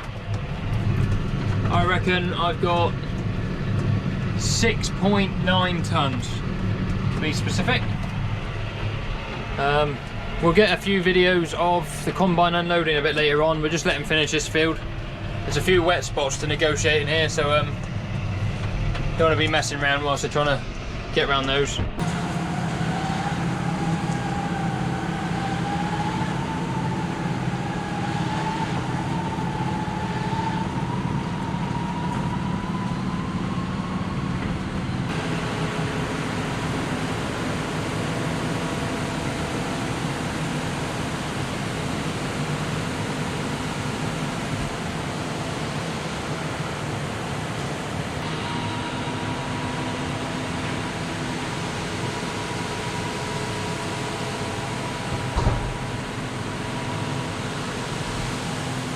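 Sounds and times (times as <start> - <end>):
tractor engine drone with whine: 0.0 - 58.9
steady hum with level tones: 0.6 - 58.9.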